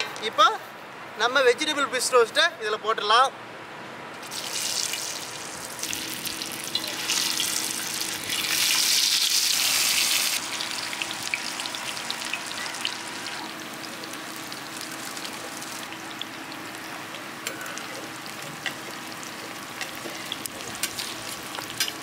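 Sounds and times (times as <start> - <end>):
banana slices sizzling in hot oil: 4.2 - 22.0.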